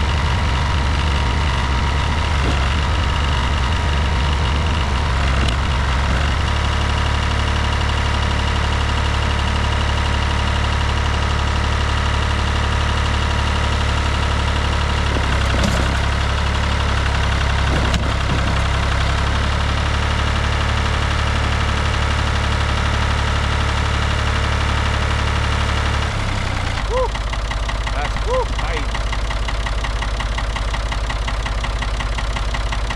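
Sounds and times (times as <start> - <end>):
tractor engine humming: 0.0 - 32.9.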